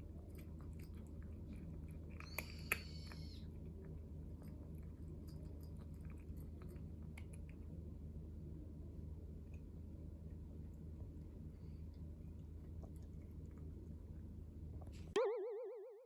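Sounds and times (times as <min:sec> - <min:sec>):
cat chewing and crunching food: 0:00.0 - 0:15.1.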